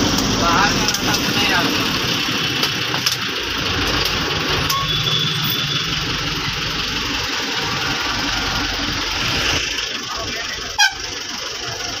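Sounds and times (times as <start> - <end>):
road and cabin rattle: 0.0 - 12.0
van engine running: 0.0 - 12.0.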